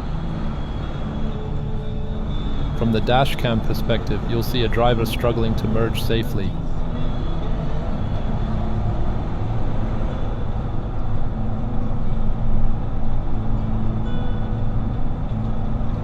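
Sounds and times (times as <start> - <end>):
road and tyre noise: 0.0 - 16.0
truck engine drone: 0.0 - 16.0.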